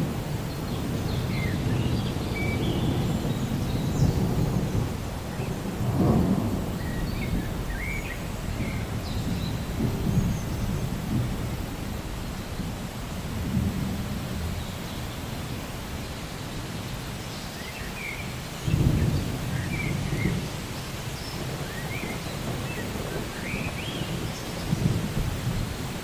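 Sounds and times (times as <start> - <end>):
thunder rolling: 0.0 - 14.6, 18.6 - 26.0
steady rain: 0.0 - 26.0.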